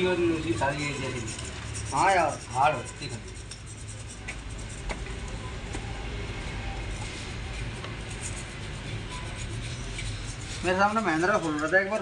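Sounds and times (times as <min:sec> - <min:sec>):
light scraping: 0:00.0 - 0:05.8, 0:06.8 - 0:12.0.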